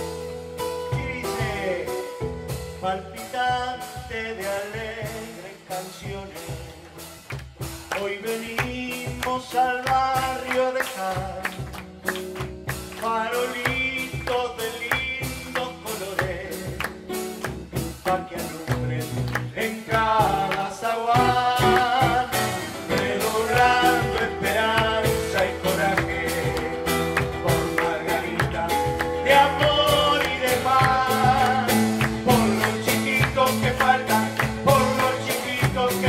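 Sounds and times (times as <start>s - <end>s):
man singing: 0.0s - 12.1s, 12.7s - 36.0s
guitar: 0.0s - 36.0s
hand percussion beat: 0.0s - 36.0s.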